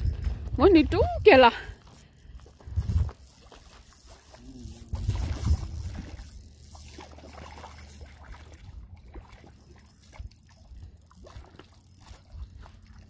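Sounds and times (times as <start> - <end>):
fish splashing in water: 2.4 - 13.0.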